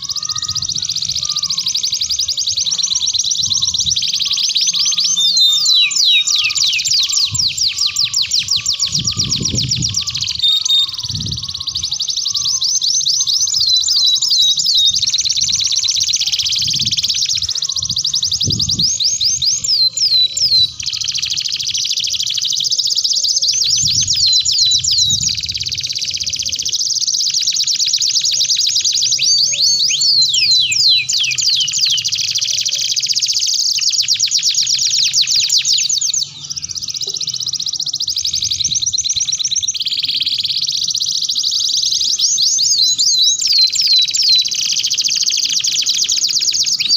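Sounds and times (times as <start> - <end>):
canaries singing: 0.0 - 46.9.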